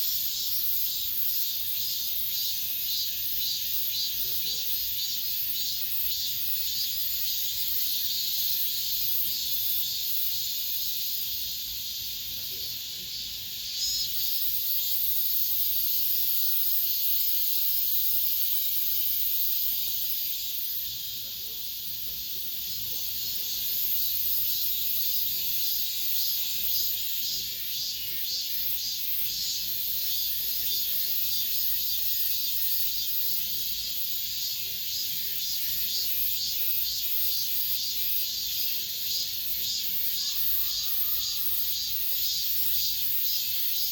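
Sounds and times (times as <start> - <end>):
cicadas buzzing: 0.0 - 43.9.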